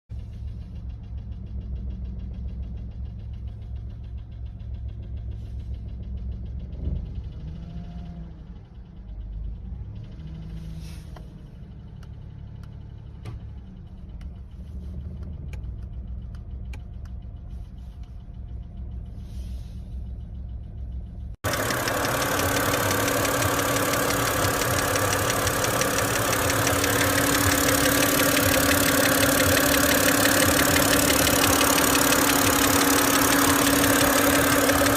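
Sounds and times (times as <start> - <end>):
car engine idling with knock: 0.1 - 10.3, 11.2 - 14.5, 15.1 - 19.1, 20.2 - 34.9.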